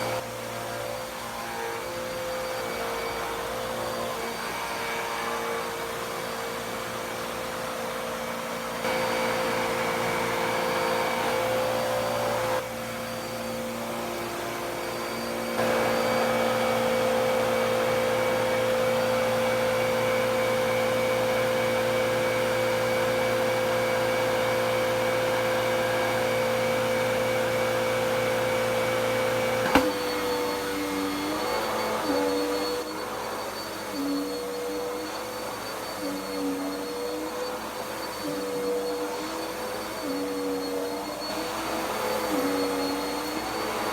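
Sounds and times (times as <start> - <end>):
vacuum cleaner motor running: 0.0 - 43.9.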